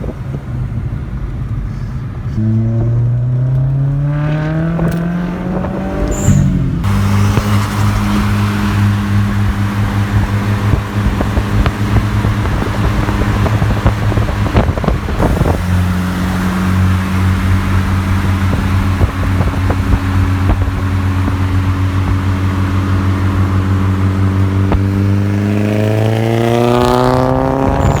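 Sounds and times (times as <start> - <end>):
car engine running: 0.0 - 28.0
road noise: 0.0 - 28.0.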